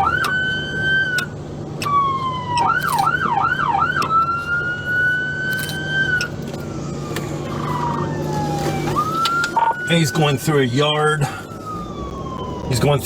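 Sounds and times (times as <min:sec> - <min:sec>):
police siren yelp and wail: 0:00.0 - 0:13.0.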